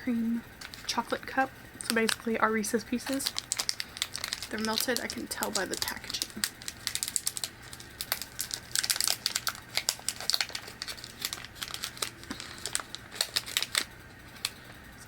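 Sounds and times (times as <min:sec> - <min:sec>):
candy wrapper crinkling: 0:00.6 - 0:14.8.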